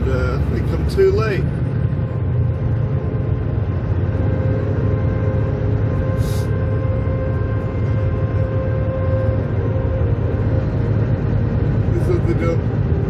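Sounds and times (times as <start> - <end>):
truck engine and tyres droning: 0.0 - 13.0.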